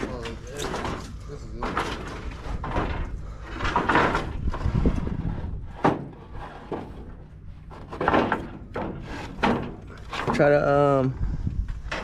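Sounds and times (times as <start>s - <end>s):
wooden boards scraping and knocking: 0.0s - 11.0s.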